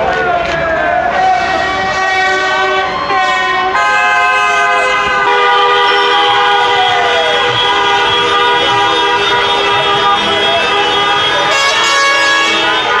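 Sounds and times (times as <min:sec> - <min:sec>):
car horns blaring: 0:00.8 - 0:13.0.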